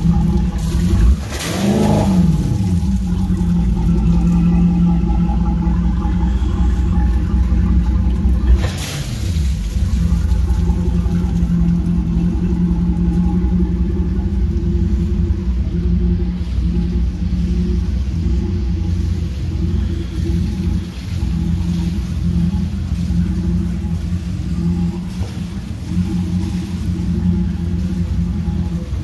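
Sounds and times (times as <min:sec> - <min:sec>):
boat engine idling and revving: 0:00.0 - 0:29.0
water pouring from exhaust: 0:00.0 - 0:29.0.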